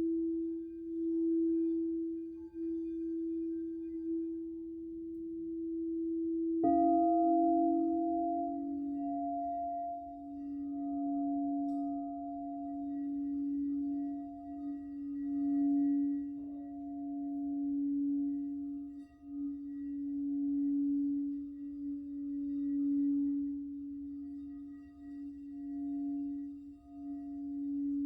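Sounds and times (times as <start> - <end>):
singing bowls ringing: 0.0 - 28.0.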